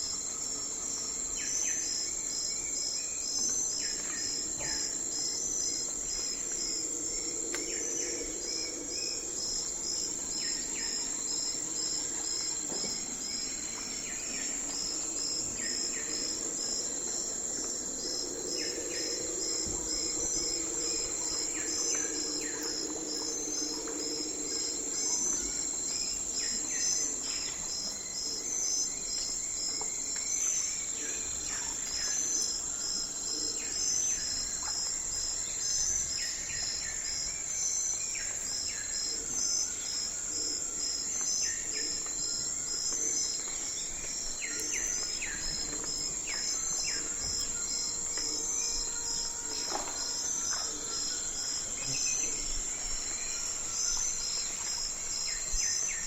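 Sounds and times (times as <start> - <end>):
insects trilling: 0.0 - 56.0
pulsing insect chirp: 0.0 - 56.0.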